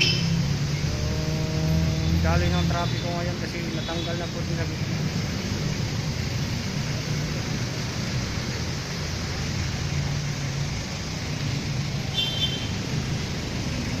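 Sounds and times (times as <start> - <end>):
traffic engines droning: 0.0 - 14.0.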